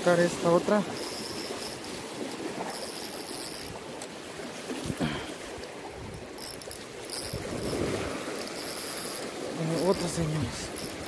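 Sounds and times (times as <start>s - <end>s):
lake water splashing on rocks: 0.0s - 11.0s.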